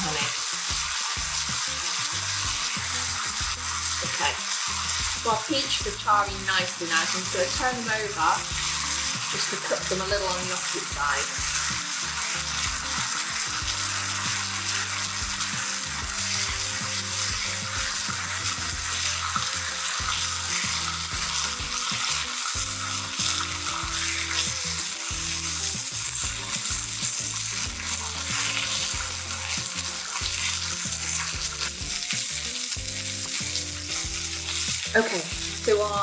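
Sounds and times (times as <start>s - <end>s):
peaches sizzling on a griddle pan: 0.0s - 36.0s.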